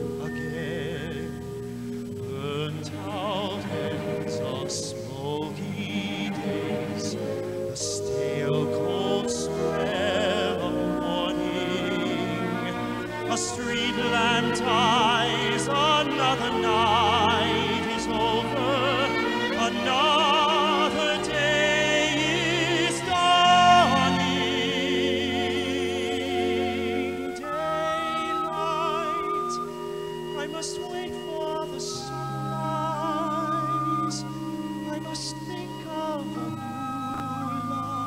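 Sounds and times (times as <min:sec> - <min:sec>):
operatic singing: 0:00.0 - 0:38.0
orchestral accompaniment: 0:00.0 - 0:38.0.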